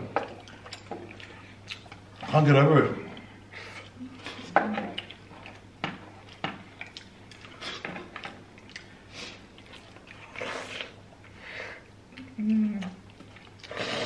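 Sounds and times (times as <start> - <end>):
people chewing with wet smacks: 0.0 - 14.0.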